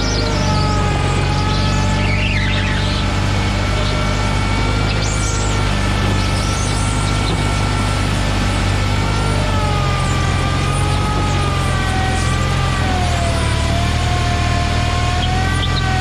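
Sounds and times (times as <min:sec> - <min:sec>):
high whine: 0:00.0 - 0:16.0
tractor engine under load: 0:00.0 - 0:16.0.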